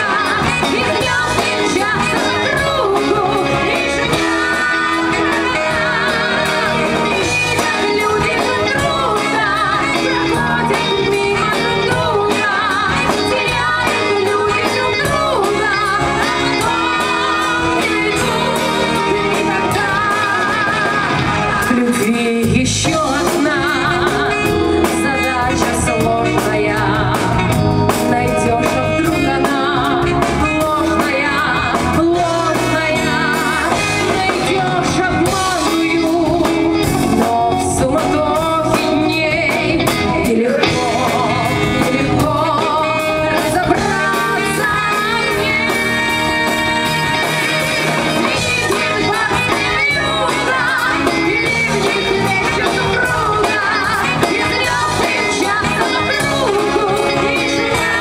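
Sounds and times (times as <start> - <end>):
instrumental backing: 0.0 - 58.0
woman singing with vibrato: 0.0 - 58.0.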